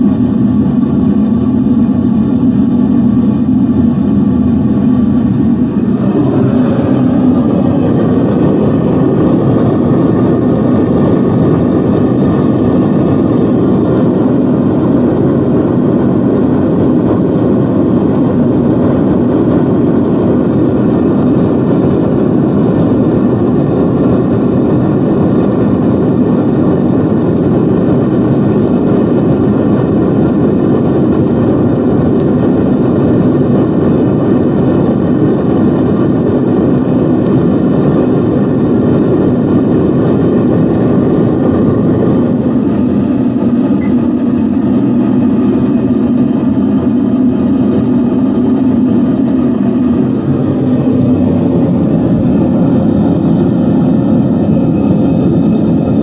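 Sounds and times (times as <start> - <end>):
furnace burner roaring: 0.0 - 56.0.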